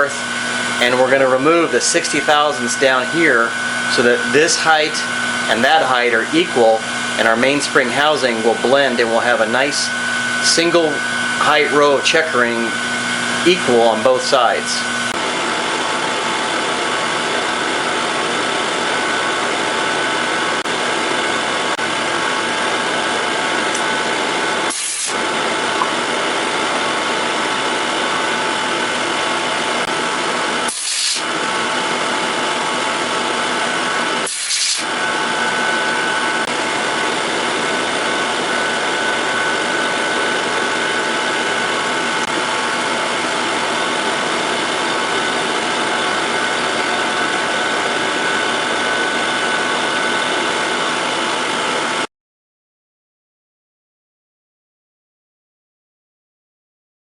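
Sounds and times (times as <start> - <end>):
milling machine cutting metal: 0.0 - 52.0.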